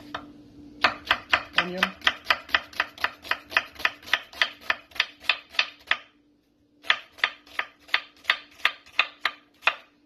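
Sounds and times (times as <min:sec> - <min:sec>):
knife chopping on wooden board: 0:00.0 - 0:06.2, 0:06.8 - 0:09.9.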